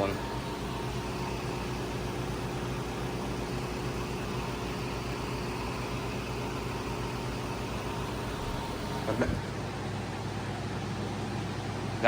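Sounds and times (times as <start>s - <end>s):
compressor hum: 0.0s - 12.0s
heat pump fan noise: 0.0s - 12.0s.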